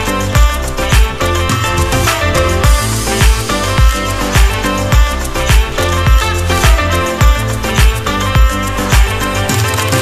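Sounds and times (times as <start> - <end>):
upbeat background music: 0.0 - 10.0
kick drum thumps: 0.4 - 9.2.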